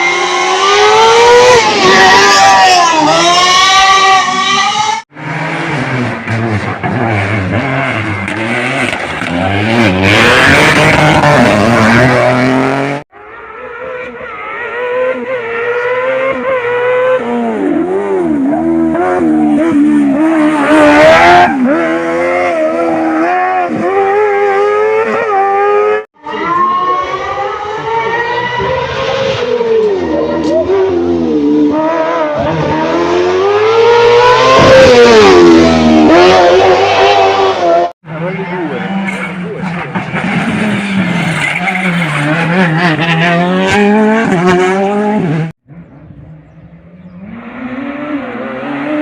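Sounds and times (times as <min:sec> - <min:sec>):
race car engine revving: 0:00.0 - 0:49.0.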